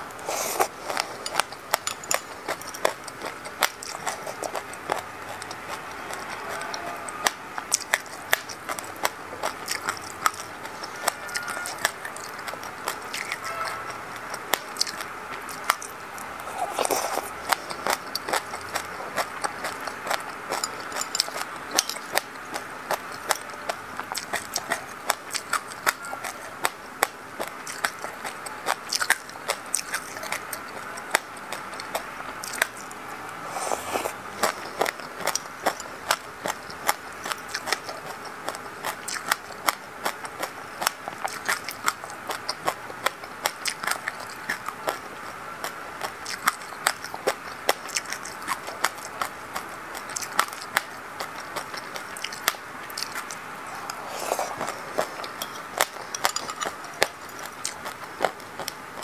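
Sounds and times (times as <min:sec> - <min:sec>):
chewing with small crunches: 0:00.0 - 0:59.0.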